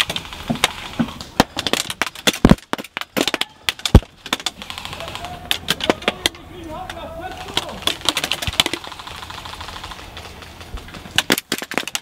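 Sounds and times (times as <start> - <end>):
pellets cracking on wooden boards: 0.0 - 12.0.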